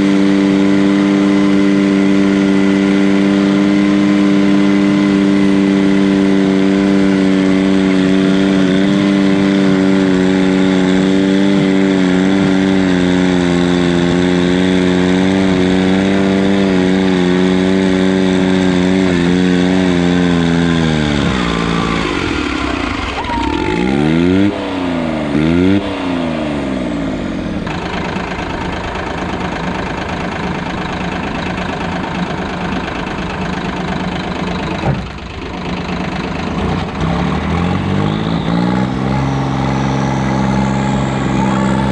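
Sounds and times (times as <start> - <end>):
diesel tractor engine revving: 0.0 - 41.9.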